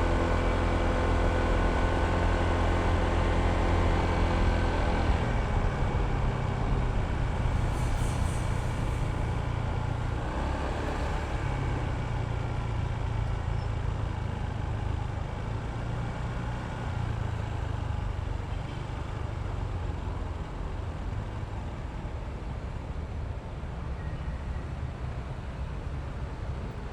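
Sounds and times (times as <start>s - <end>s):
traffic noise: 0.0s - 26.9s.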